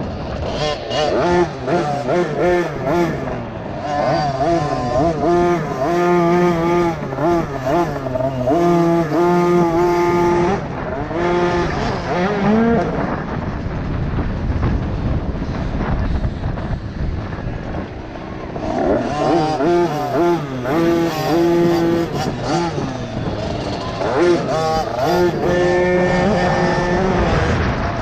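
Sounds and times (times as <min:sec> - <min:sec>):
small motorbike engines revving: 0:00.0 - 0:28.0
steady rush of noise: 0:00.0 - 0:28.0.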